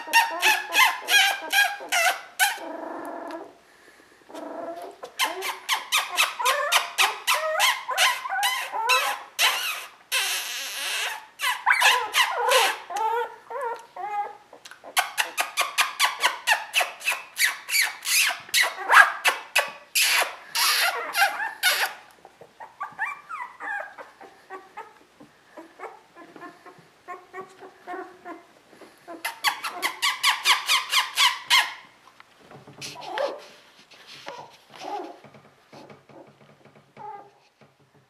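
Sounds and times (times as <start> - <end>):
puppies squealing and yelping: 0.0 - 3.5, 4.3 - 25.0, 25.6 - 32.0.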